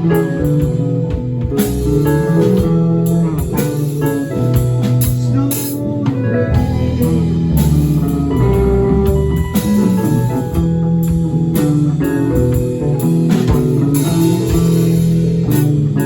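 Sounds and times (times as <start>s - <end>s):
bass guitar: 0.0s - 16.0s
drum kit: 0.0s - 16.0s
lead guitar: 0.0s - 16.0s.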